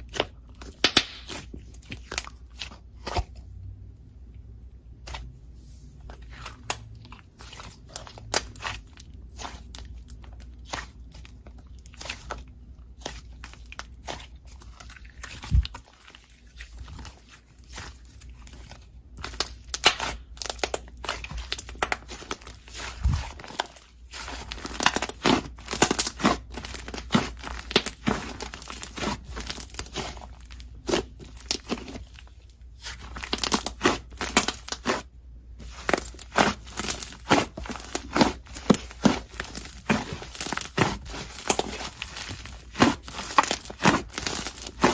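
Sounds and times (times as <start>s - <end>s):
slime crackling as kneaded by hand: 0.0s - 3.8s, 4.9s - 44.9s.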